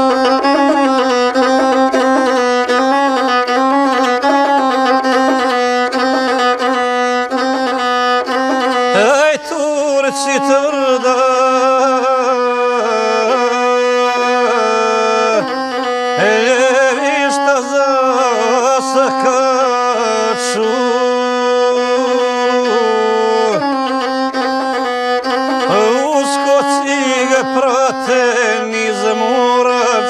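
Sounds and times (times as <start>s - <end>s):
bowed folk fiddle melody: 0.0s - 30.0s.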